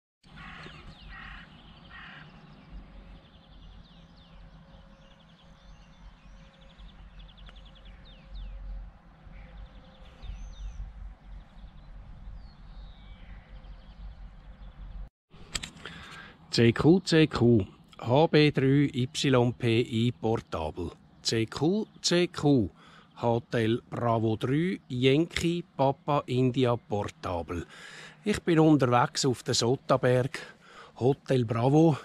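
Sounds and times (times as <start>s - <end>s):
harsh bird calls: 0.2s - 15.0s, 15.8s - 32.0s
birds chirping and trilling: 0.2s - 15.1s, 15.8s - 32.0s
low outdoor rumble: 1.2s - 27.8s.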